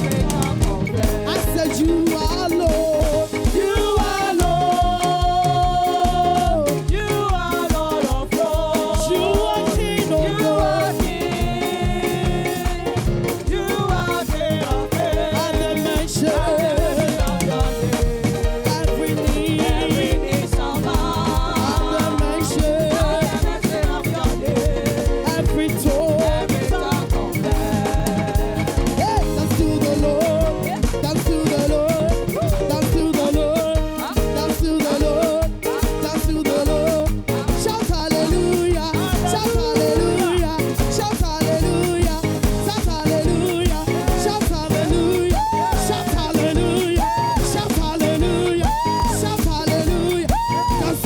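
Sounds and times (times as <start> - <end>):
upbeat praise music: 0.0 - 51.0.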